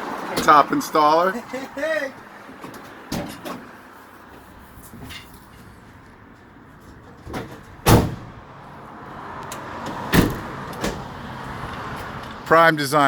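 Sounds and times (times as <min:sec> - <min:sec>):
passing vehicle noise: 0:00.0 - 0:13.0.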